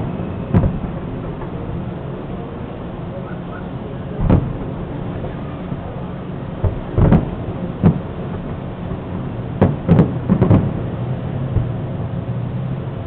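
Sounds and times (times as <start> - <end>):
fireworks bursting in low booms: 0.0 - 13.0.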